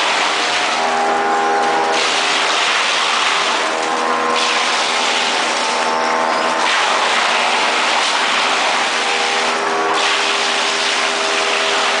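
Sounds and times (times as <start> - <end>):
motor hum: 0.0 - 12.0
wood cutting machine grinding: 0.0 - 12.0.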